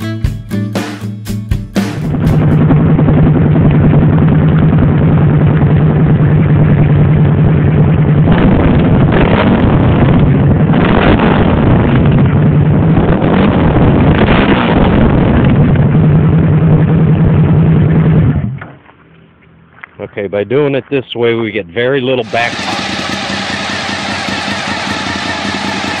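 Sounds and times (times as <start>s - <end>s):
motorcycle engine idling and revving: 1.5s - 18.9s, 22.2s - 26.0s.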